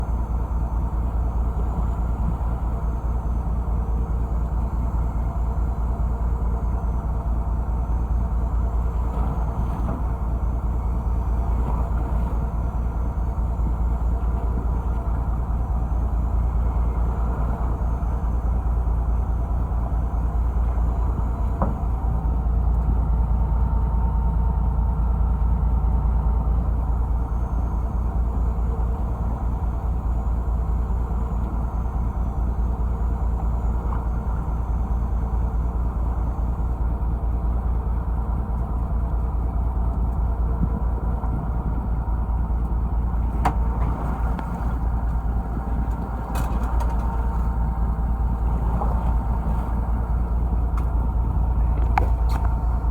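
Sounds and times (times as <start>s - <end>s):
boat engine rumbling: 0.0s - 52.9s.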